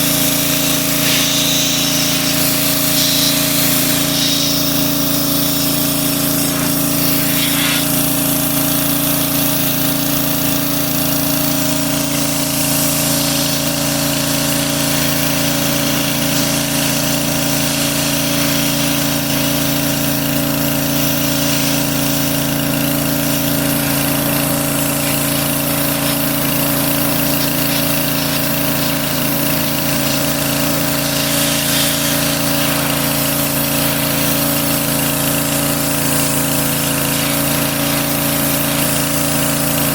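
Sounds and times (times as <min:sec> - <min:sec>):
machine motor humming and hissing: 0:00.0 - 0:39.9.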